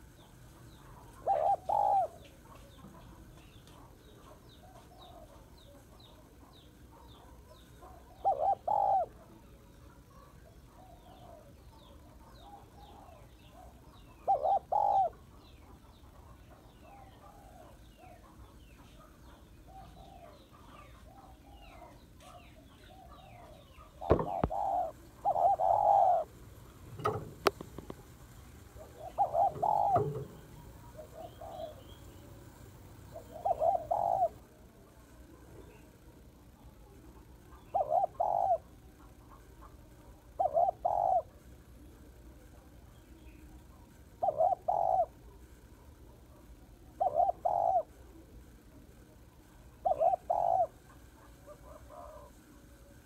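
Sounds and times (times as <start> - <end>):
dove cooing: 0.0 - 35.8, 37.4 - 41.4, 44.2 - 45.4, 46.8 - 48.8, 49.7 - 52.8
small birds chirping: 0.0 - 52.8.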